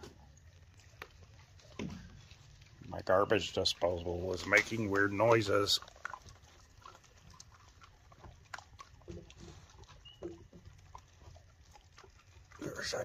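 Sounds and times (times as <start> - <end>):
coyote crunching a bone: 0.0 - 13.0.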